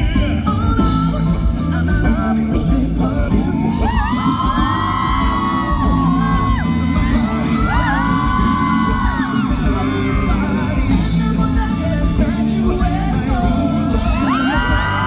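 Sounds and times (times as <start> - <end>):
heavy drum beat: 0.0 - 15.0
live pop band: 0.0 - 15.0
voices singing long notes: 0.0 - 15.0
crowd whooping: 0.4 - 15.0.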